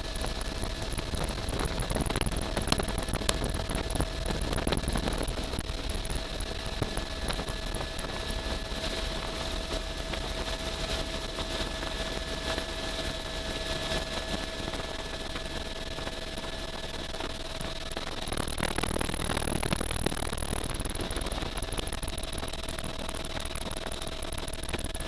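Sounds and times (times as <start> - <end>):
constant high whine: 0.0 - 25.0
helicopter engine and rotor drone: 0.0 - 25.0.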